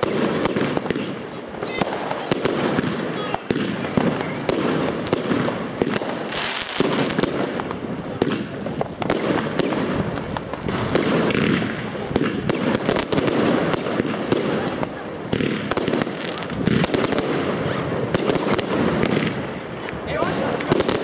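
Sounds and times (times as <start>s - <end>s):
fireworks cracking and banging: 0.0s - 21.0s
fireworks crackling hiss: 0.0s - 21.0s.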